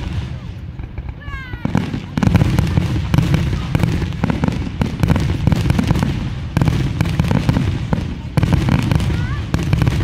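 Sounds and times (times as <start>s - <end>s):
fireworks booming: 0.0s - 10.0s
fireworks crackle of sharp pops: 0.0s - 10.0s.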